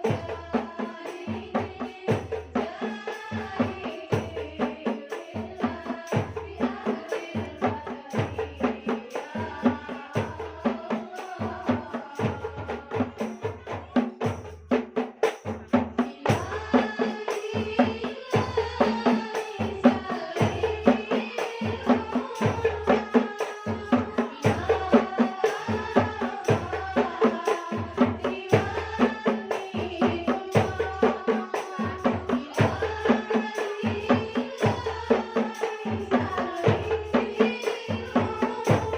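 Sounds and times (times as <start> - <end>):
hand percussion beat: 0.0 - 38.9
voices singing devotional song: 0.0 - 38.9.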